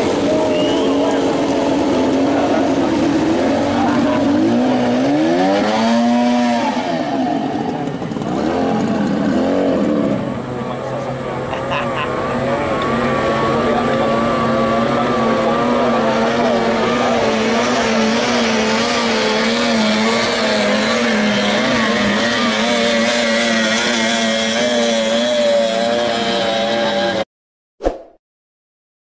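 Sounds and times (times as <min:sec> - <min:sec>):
outboard motor at high revs: 0:00.0 - 0:27.2.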